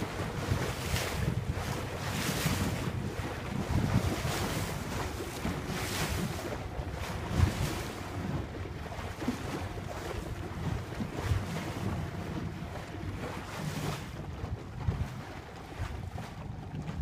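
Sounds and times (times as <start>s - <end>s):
soft low buffets: 0.0s - 17.0s
water washing around hull: 0.0s - 17.0s
wind gusting on microphone: 0.0s - 17.0s.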